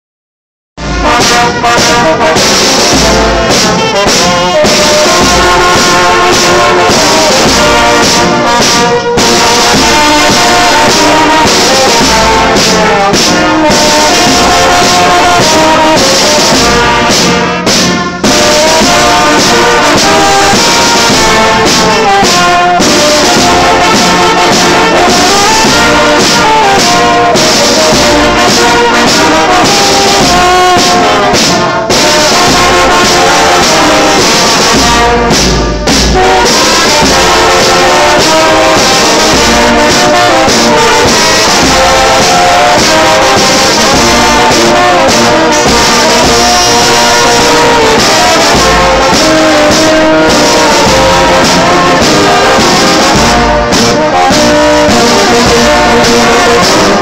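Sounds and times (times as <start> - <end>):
bass drum: 0.8 - 57.0
brass band playing: 0.8 - 57.0
snare drums: 0.8 - 57.0.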